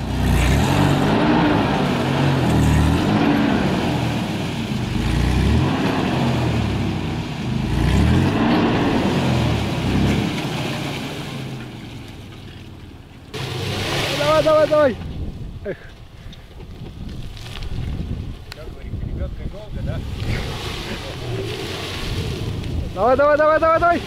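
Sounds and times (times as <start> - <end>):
suv engines revving: 0.0 - 16.7, 19.5 - 24.0.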